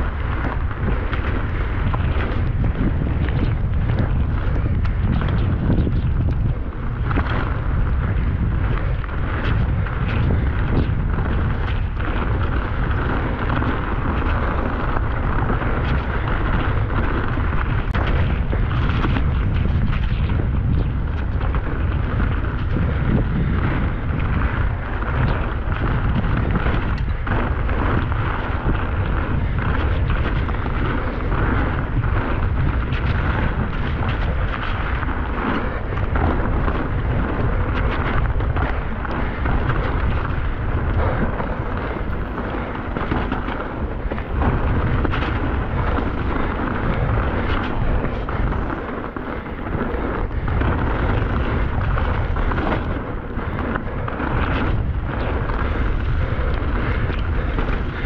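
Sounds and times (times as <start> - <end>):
mountain bike rattling: 0.0 - 58.0
tyre noise on dirt trail: 0.0 - 58.0
wind buffeting microphone: 0.0 - 58.0.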